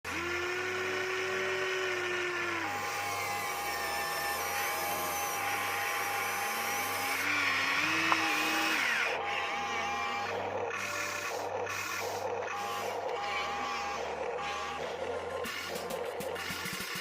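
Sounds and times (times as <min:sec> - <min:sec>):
small electric motors whining: 0:00.1 - 0:17.0.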